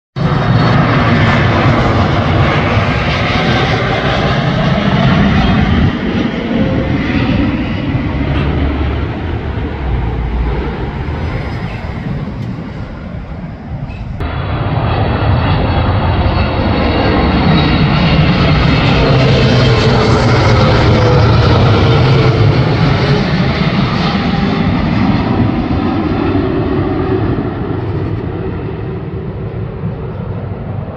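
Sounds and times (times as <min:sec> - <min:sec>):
jet engines rumbling: 0:00.2 - 0:30.9.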